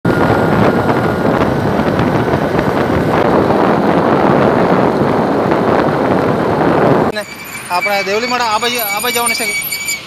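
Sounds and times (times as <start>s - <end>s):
wind buffeting microphone: 0.0s - 9.3s
motorbike road rush: 0.0s - 10.0s.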